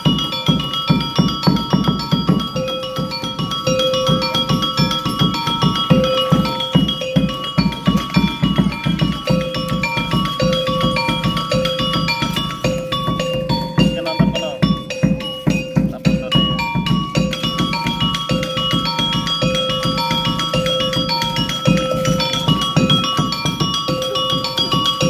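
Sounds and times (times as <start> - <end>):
fast drum beat: 0.0 - 25.0
metallophone melody: 0.0 - 25.0.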